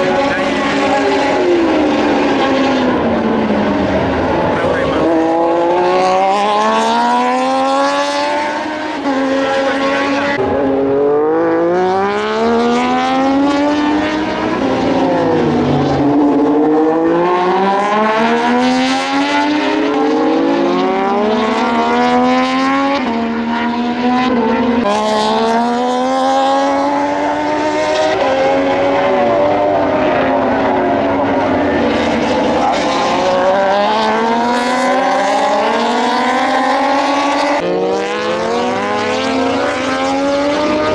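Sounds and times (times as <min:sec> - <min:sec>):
race motorcycles at full throttle: 0:00.0 - 0:40.9.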